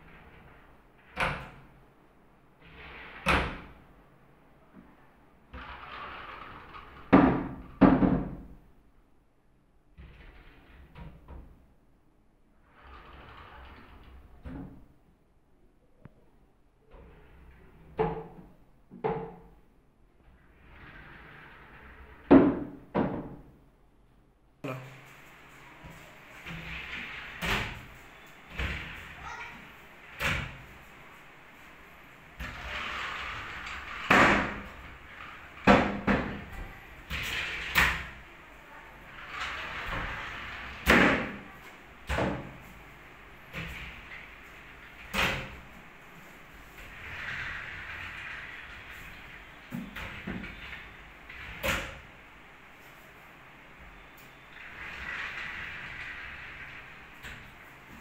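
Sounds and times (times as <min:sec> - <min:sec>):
sliding wardrobe shutters rolling: 0:00.0 - 0:08.7, 0:09.9 - 0:11.7, 0:12.5 - 0:15.0, 0:16.8 - 0:23.6, 0:24.8 - 0:58.0.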